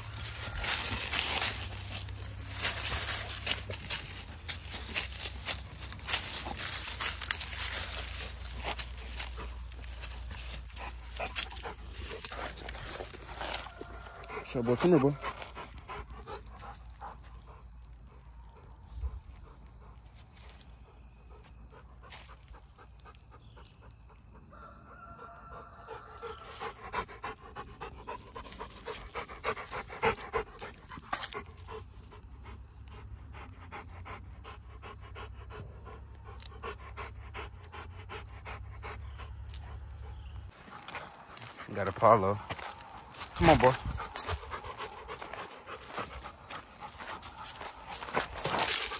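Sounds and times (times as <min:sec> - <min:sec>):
dog panting: 0:00.0 - 0:18.6, 0:25.8 - 0:48.9.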